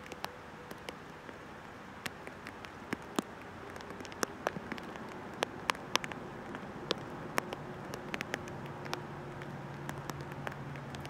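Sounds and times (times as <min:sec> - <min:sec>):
rain drips ticking: 0:00.0 - 0:11.0
rain hiss: 0:00.0 - 0:11.0.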